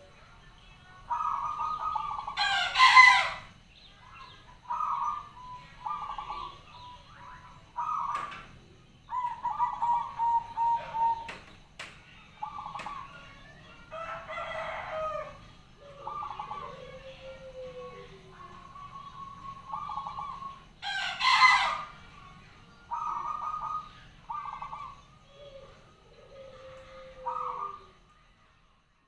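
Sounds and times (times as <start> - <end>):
dove cooing: 1.0 - 3.5, 4.6 - 11.6, 12.4 - 28.0.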